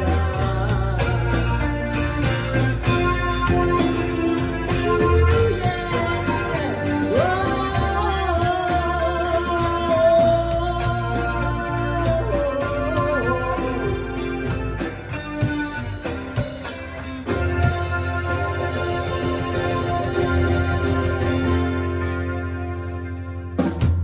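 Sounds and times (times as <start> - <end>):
person singing: 0.0 - 22.0
band playing a song: 0.0 - 24.0.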